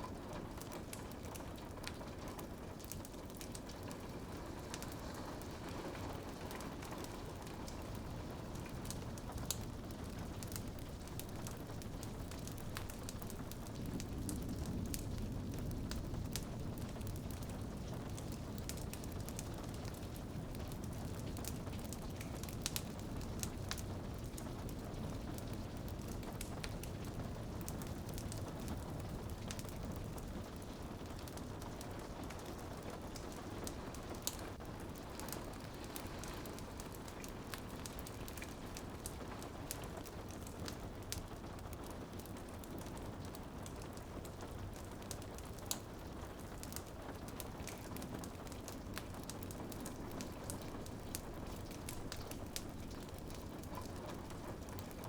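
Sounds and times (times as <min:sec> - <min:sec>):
rain on a window: 0:00.0 - 0:55.0
wood fire crackling: 0:00.0 - 0:55.0.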